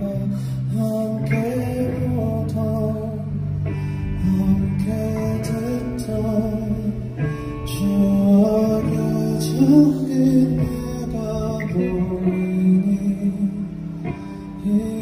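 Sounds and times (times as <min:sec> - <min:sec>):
live band playing held notes: 0:00.0 - 0:15.0.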